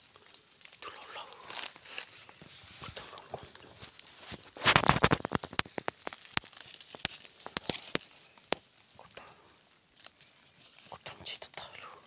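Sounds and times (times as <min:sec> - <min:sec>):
scuffle in leaves: 0:00.0 - 0:11.2
dry leaves rustling and crackling: 0:00.0 - 0:12.0.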